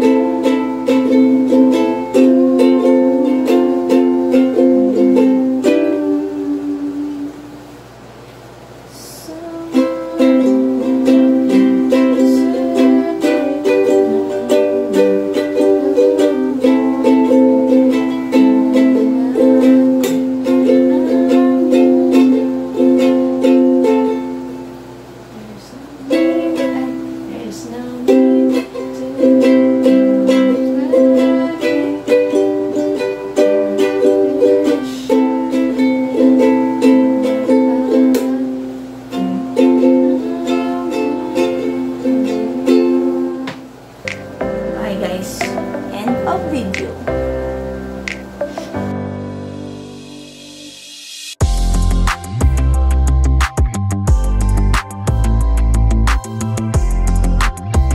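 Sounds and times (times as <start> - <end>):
ukulele strumming chords: 0.0 - 50.8, 51.4 - 57.9.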